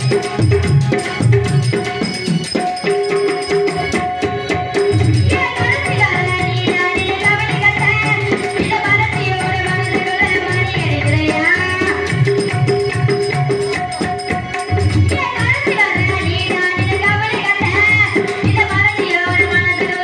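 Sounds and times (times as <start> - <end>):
tabla drums: 0.0 - 20.0
woman singing into a microphone: 3.2 - 20.0.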